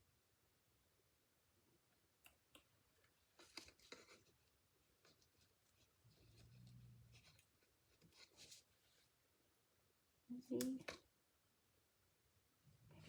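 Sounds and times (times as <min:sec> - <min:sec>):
quiet low hum: 0:00.0 - 0:13.0.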